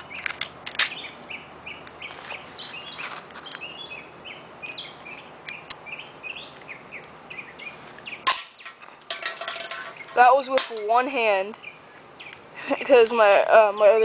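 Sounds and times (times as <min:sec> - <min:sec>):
faint outdoor background noise: 0:00.0 - 0:14.0
songbirds chirping: 0:00.0 - 0:14.0.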